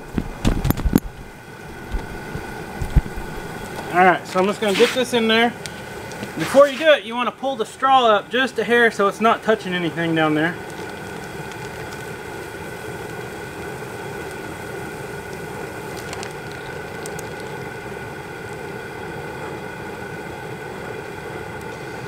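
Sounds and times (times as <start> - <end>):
faint hum: 0.0 - 22.0
water boiling in a pot: 0.0 - 22.0.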